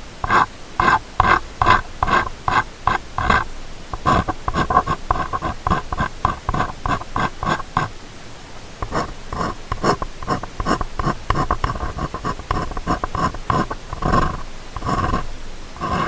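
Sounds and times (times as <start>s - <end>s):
ear-cleaning tool scraping: 0.0s - 8.0s, 8.8s - 16.0s.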